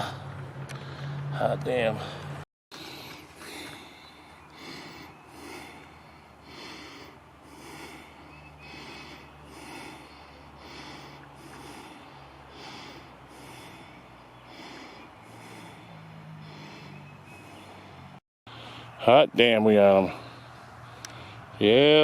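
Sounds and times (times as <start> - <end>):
man breathing heavily: 0.0 - 1.3, 1.9 - 19.0, 20.1 - 21.6.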